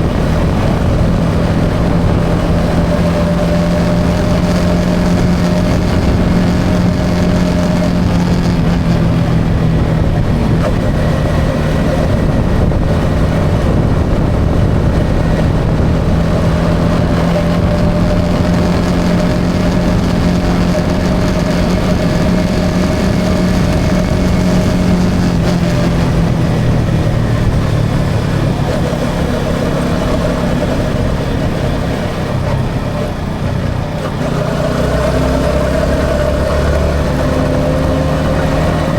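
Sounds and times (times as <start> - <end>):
motorcycle engine cruising: 0.0 - 38.9
road noise: 0.0 - 38.9
wind noise: 0.0 - 38.9.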